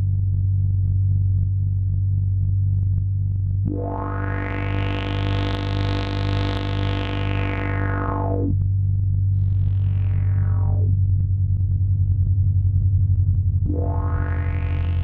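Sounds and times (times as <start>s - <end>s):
low synth drone: 0.0s - 15.0s.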